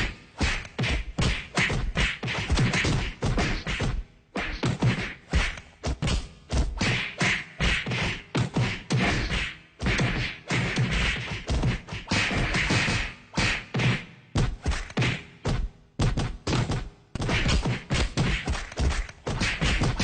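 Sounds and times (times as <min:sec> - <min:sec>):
punches whacks and thuds: 0:00.0 - 0:20.0.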